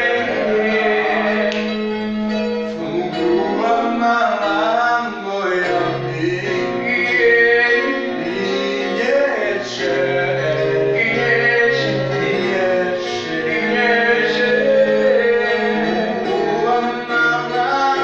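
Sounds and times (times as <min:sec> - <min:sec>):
person singing worship song: 0:00.0 - 0:01.9, 0:02.8 - 0:18.0
instrumental accompaniment: 0:00.0 - 0:18.0.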